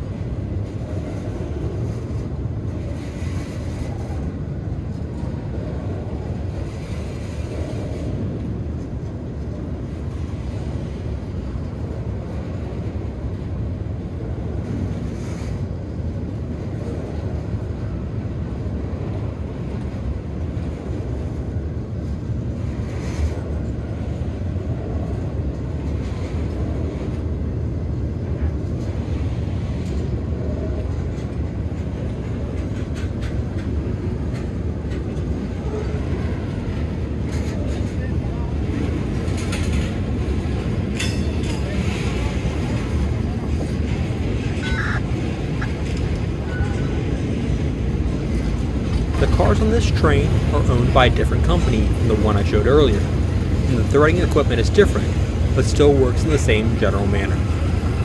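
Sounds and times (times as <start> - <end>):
freight train rumbling: 0.0 - 58.0.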